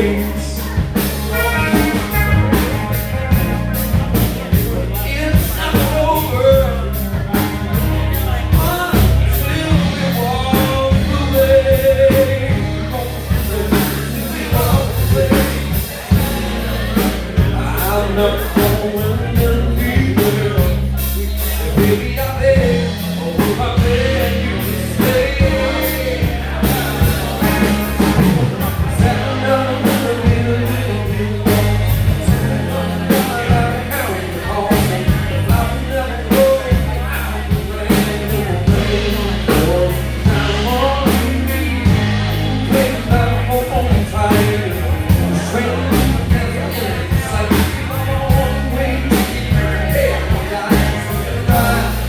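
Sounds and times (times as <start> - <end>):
bass guitar: 0.0 - 52.0
drums: 0.0 - 52.0
melodic lead line: 0.0 - 52.0.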